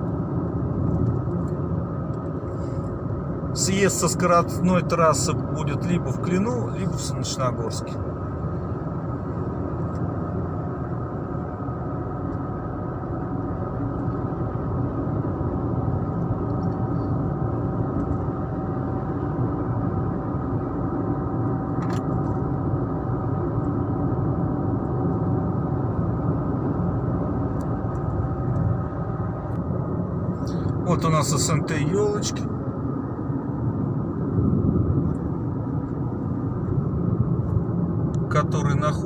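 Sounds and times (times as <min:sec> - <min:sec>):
car road noise from cabin: 0:00.0 - 0:39.0.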